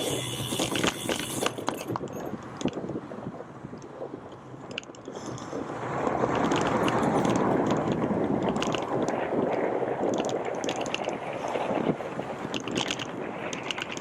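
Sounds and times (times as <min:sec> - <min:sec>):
bicycle clicks and rattles: 0:00.0 - 0:03.0, 0:03.7 - 0:05.6, 0:06.2 - 0:14.0
wind rushing over microphone: 0:00.0 - 0:14.0.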